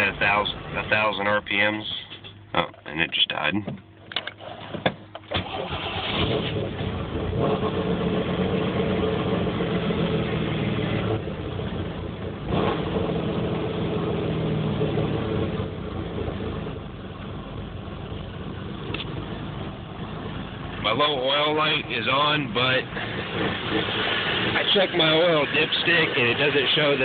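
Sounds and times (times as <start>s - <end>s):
car engine rough idle: 3.9s - 27.0s.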